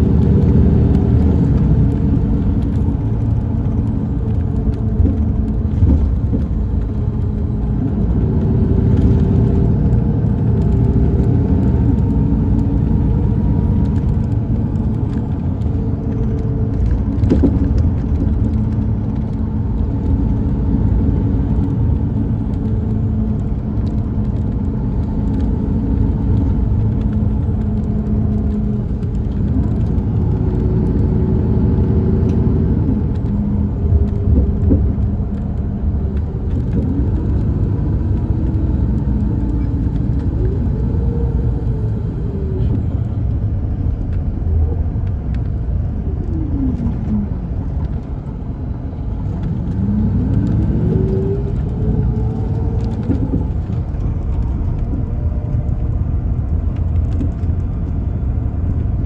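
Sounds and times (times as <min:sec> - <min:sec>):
diesel engine drone: 0:00.0 - 0:59.0
road rumble: 0:00.0 - 0:59.0.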